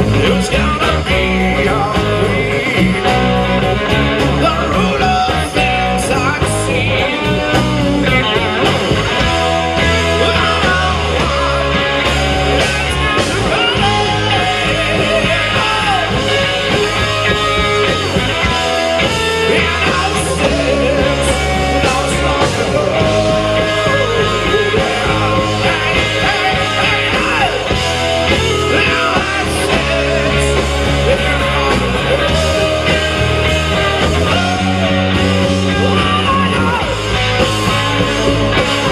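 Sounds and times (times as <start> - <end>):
person singing: 0.0 - 8.6, 9.6 - 38.9
bass guitar: 0.0 - 38.9
drums: 0.0 - 38.9
electric guitars: 0.0 - 38.9.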